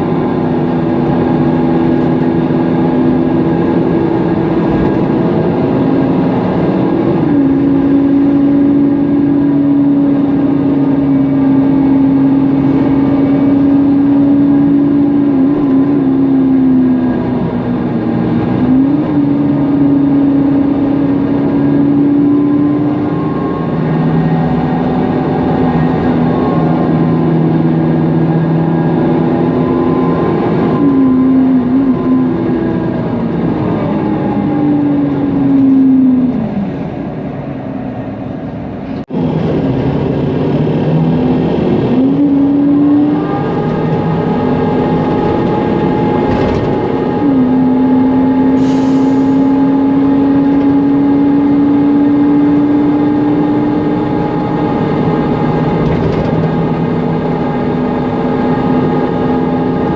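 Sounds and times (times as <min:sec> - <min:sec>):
bus engine and driveline whine: 0:00.0 - 0:59.9.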